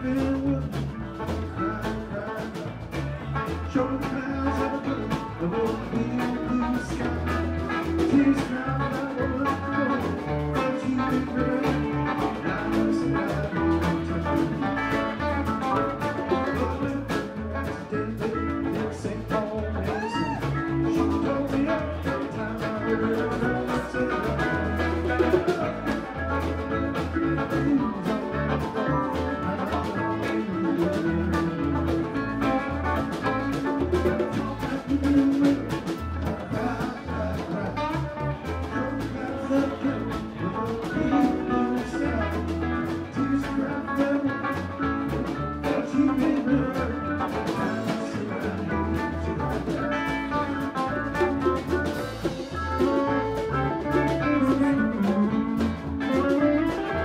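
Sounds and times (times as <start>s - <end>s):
bass: 0.0s - 57.0s
bluesy jazz band: 0.0s - 57.0s
drum kit: 0.0s - 57.0s
guitar: 0.0s - 57.0s.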